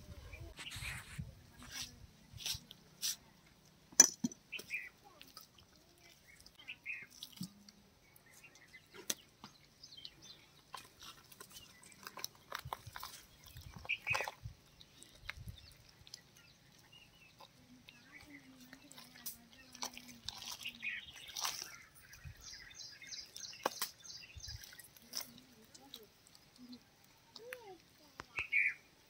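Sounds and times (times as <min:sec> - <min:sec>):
wet chicken carcass handling: 0:04.6 - 0:07.8, 0:08.4 - 0:28.4.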